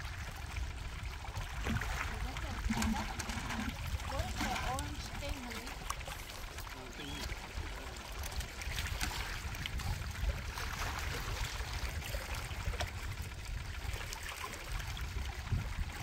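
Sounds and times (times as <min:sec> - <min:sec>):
waves lapping against rocks: 0:00.0 - 0:16.0.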